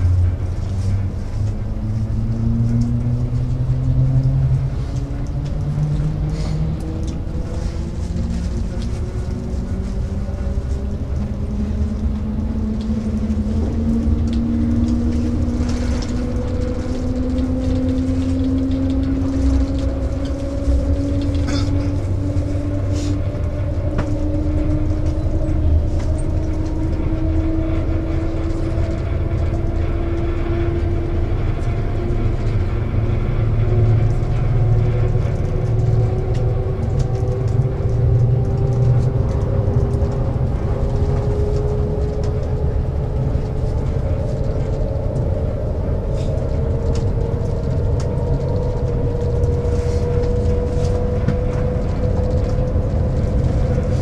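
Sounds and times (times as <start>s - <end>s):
train cabin rumble rising in pitch: 0.0s - 54.0s.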